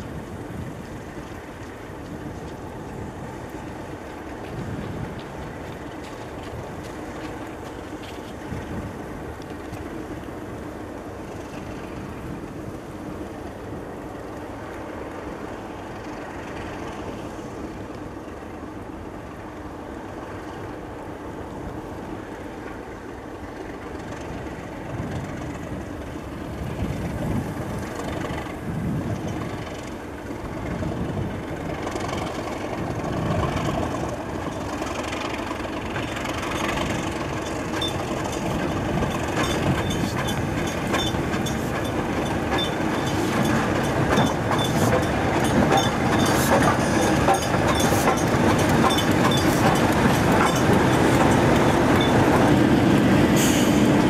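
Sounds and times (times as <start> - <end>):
train running with low throb: 0.0 - 54.0.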